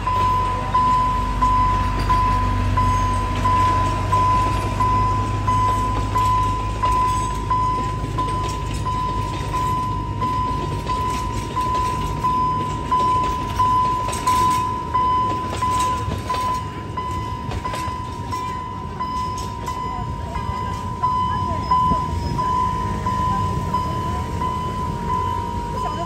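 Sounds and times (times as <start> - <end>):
diesel locomotive engine rumble: 0.0 - 26.0
level crossing bell dinging: 0.0 - 26.0
train cars clicking on rails: 0.0 - 26.0.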